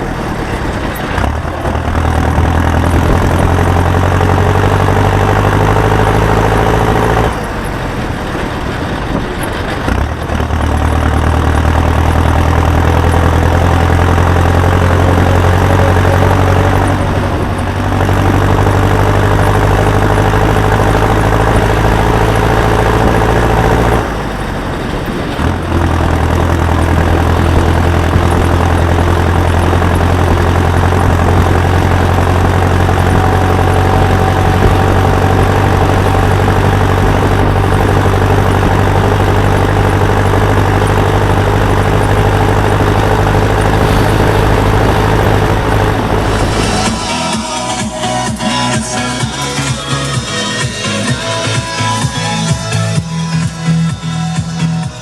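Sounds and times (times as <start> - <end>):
heavy engine humming: 0.0 - 55.0.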